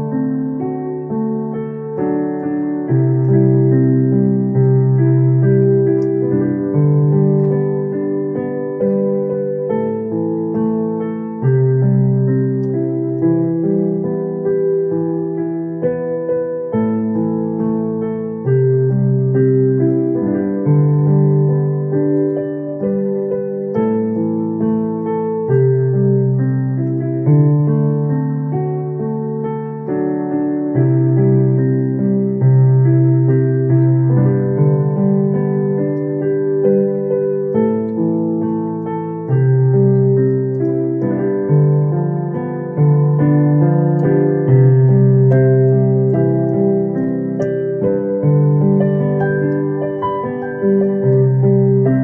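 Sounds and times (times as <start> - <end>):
electric piano chords: 0.0 - 52.0
electronic keyboard ballad: 0.0 - 52.0.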